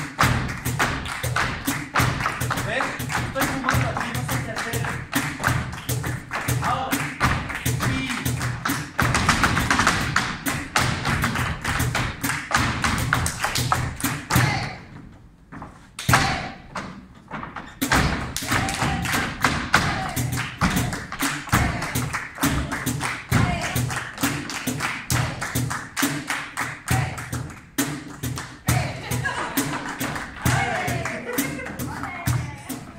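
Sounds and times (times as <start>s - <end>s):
hand-clapping: 0.0s - 14.6s, 17.8s - 32.9s.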